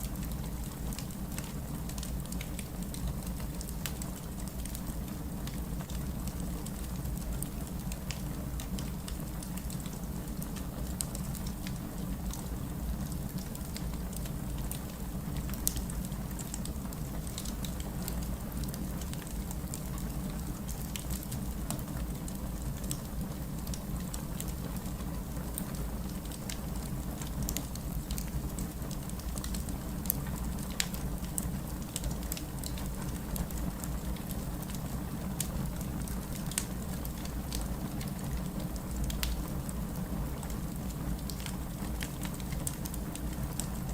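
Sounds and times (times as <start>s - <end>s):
wood fire crackling and popping: 0.1s - 43.9s.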